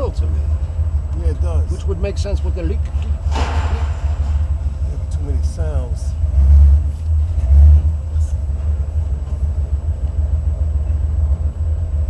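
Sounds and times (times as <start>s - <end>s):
car engine rumble from inside: 0.0s - 12.0s.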